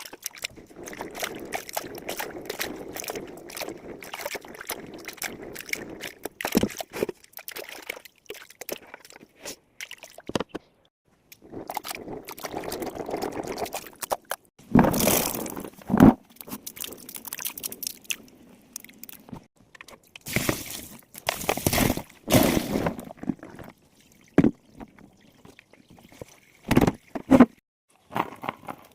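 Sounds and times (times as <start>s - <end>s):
water splashing and sloshing: 0.0s - 27.6s.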